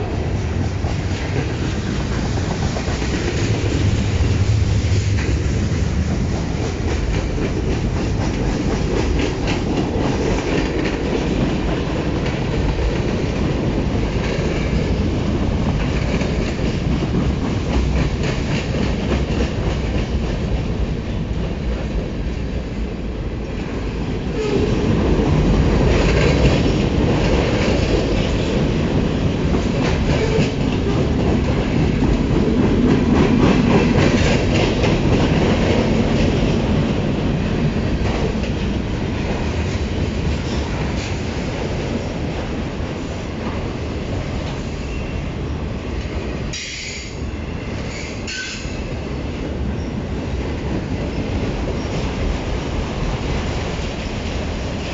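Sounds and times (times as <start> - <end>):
freight train rumble: 0.0 - 54.9.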